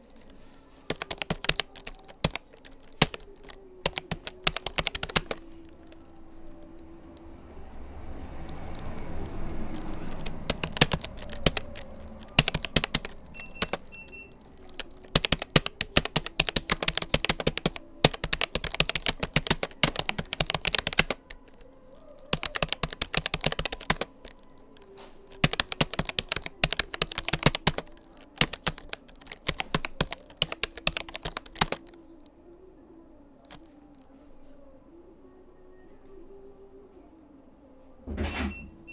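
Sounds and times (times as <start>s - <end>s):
computer keyboard typing: 0.0s - 32.0s, 33.4s - 33.7s.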